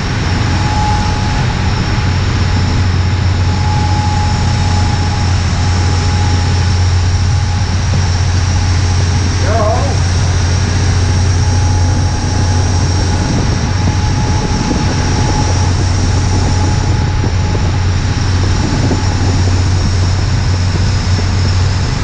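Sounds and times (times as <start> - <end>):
boat engines low drone: 0.0 - 22.0
thin high whine: 0.0 - 22.0
water rushing along hull: 0.0 - 22.0.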